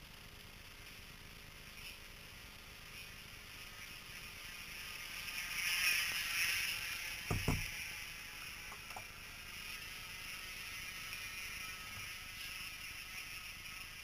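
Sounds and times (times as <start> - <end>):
model boat electric motor whine: 1.7 - 14.0.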